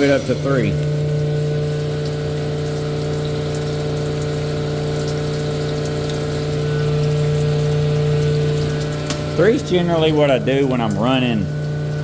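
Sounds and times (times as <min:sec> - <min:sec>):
honing machine hum: 0:00.0 - 0:12.0.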